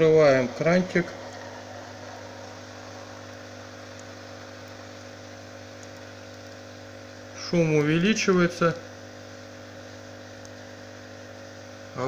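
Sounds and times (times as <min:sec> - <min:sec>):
aquarium filter pump humming: 0:00.0 - 0:12.0.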